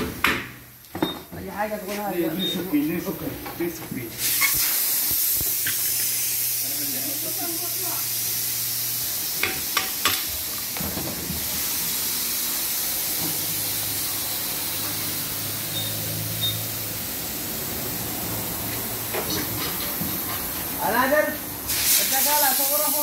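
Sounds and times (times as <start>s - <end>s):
steady machinery hiss: 1.5s - 23.0s.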